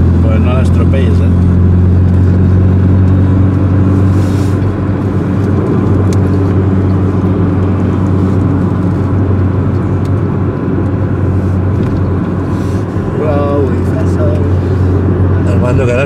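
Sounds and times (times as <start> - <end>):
car engine drone: 0.0 - 16.0
tyre and road noise: 0.0 - 16.0.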